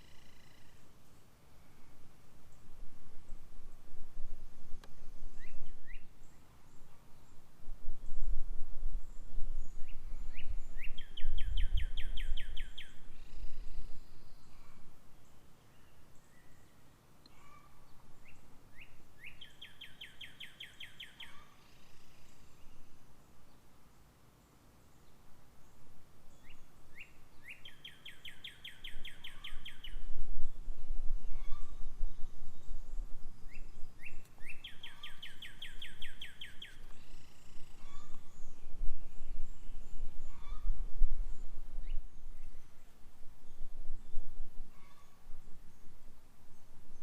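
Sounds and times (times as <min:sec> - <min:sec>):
songbird singing: 0:00.0 - 0:47.0.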